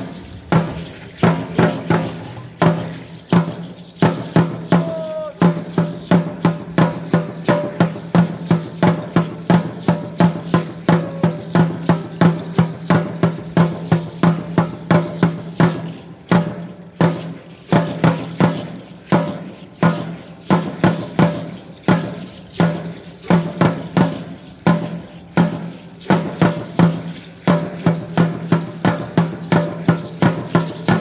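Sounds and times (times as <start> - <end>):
drum beating fast rhythm: 0.0 - 31.0.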